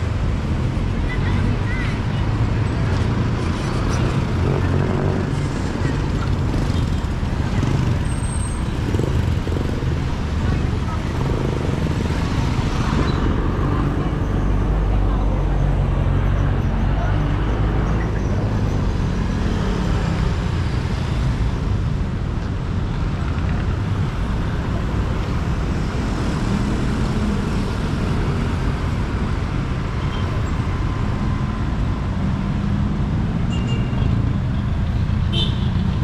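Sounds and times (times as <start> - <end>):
road and traffic noise: 0.0 - 36.0.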